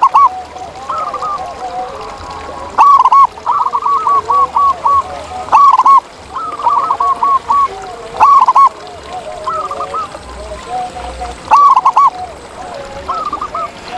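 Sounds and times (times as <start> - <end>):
doves cooing: 0.0 - 13.9
softer lower cooing: 0.0 - 13.9.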